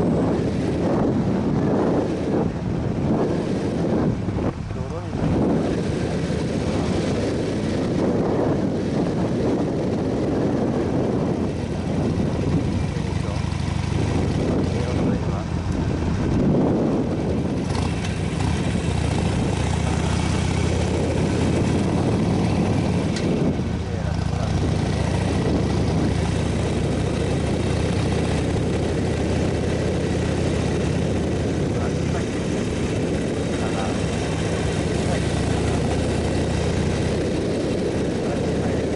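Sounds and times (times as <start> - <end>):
motorcycle engine: 0.0 - 38.9
road noise: 0.0 - 38.9
wind buffeting microphone: 0.0 - 38.9.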